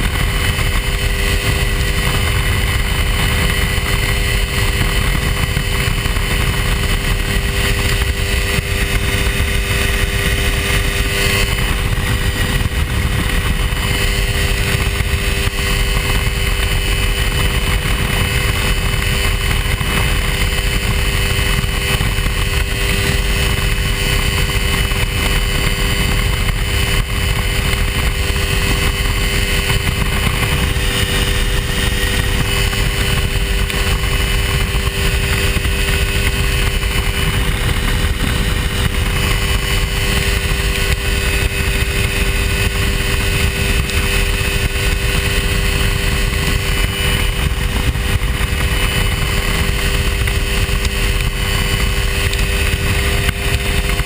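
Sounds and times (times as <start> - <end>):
light aircraft engine and propeller droning: 0.0 - 54.0
wind rumbling on microphone: 0.0 - 54.0.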